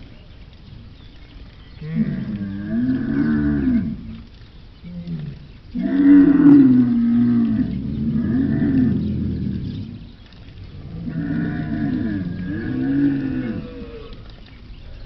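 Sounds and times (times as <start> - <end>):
camel calling: 1.8 - 15.0.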